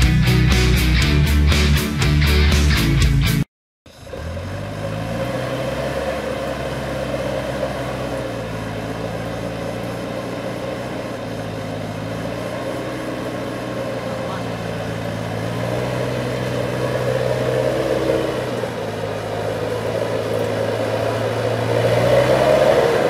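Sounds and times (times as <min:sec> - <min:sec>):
truck engine running under load: 0:03.9 - 0:23.0.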